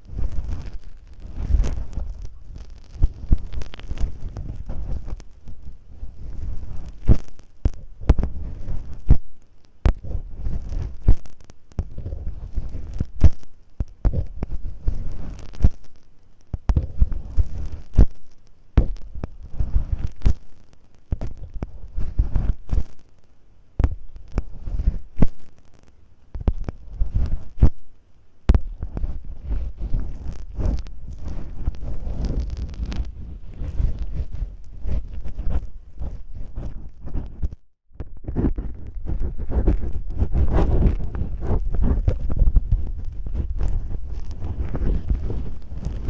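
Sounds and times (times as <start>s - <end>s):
tape on microphone scratched: 0.0s - 46.0s.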